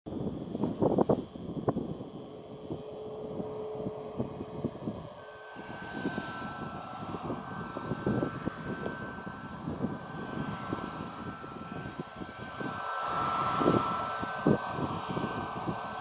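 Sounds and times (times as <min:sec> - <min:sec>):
jet engine whine: 0:00.1 - 0:16.0
wind rumble on microphone: 0:00.1 - 0:16.0.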